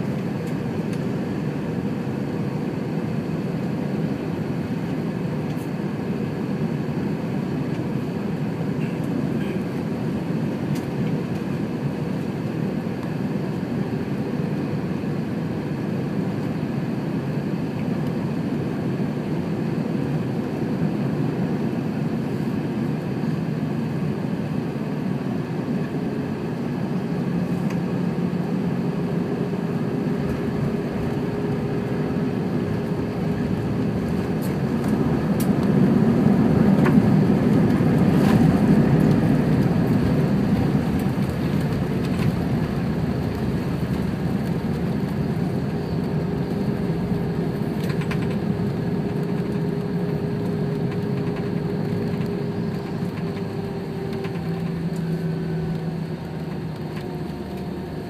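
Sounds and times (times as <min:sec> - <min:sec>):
airplane engines roaring: 0:00.0 - 0:58.0.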